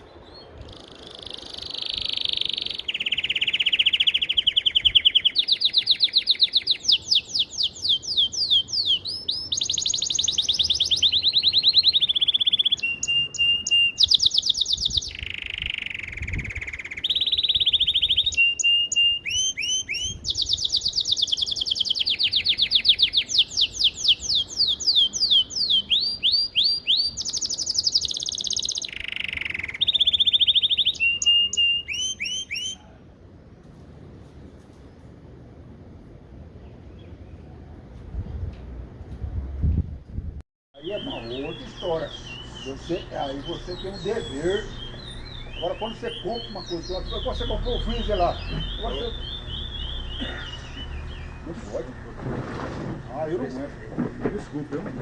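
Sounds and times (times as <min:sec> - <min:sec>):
songbird singing trills: 0:00.0 - 0:33.0, 0:40.8 - 0:52.2.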